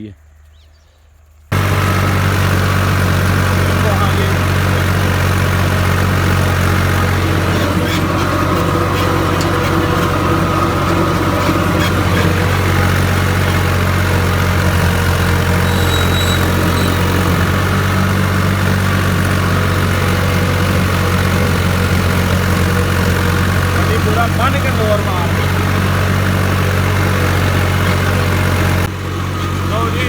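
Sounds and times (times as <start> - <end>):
tractor diesel engine running: 1.5 - 30.0.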